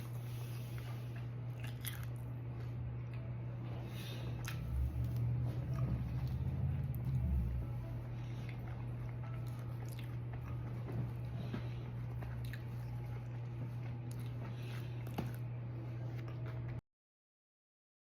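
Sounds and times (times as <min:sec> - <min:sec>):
person chewing food: 0:00.0 - 0:16.8
steady low hum: 0:00.0 - 0:16.8.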